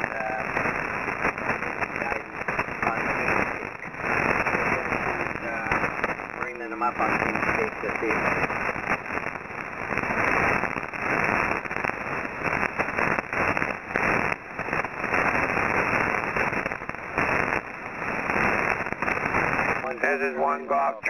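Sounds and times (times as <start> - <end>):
radio static and hiss: 0.0 - 21.0.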